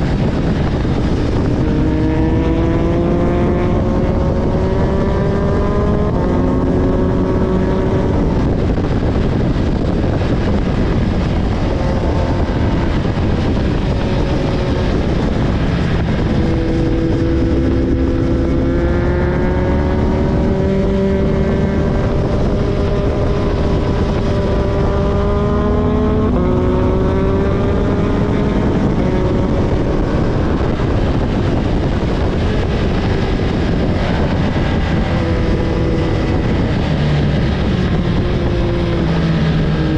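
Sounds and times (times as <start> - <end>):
heavy low rumble: 0.0 - 39.9
vehicle engine revving through gears: 0.1 - 39.9.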